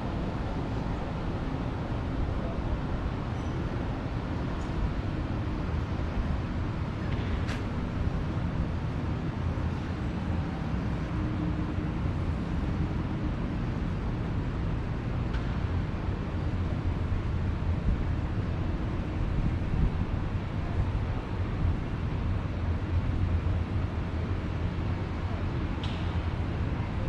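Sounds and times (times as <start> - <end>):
street ambience rumble: 0.0 - 27.0.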